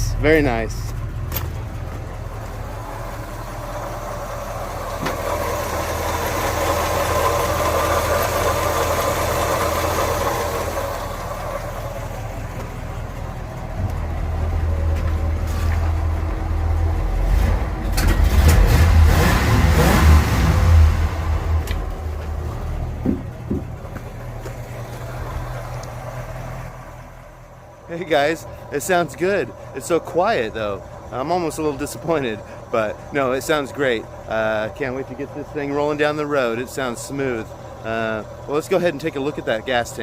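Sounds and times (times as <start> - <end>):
bus engine idling: 0.0 - 19.1, 20.4 - 40.0.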